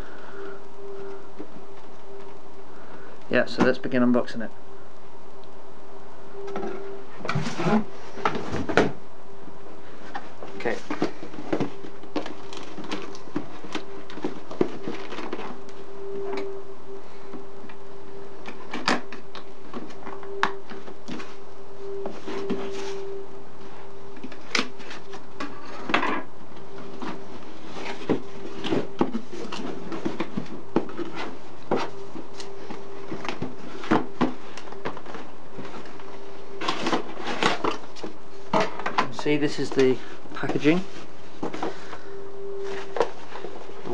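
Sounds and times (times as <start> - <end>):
boiler humming: 0.0 - 43.9.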